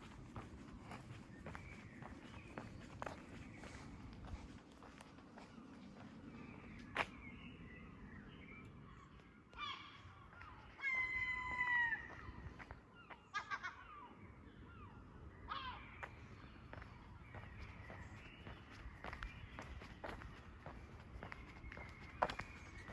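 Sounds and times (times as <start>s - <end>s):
birds calling: 0.0s - 22.9s.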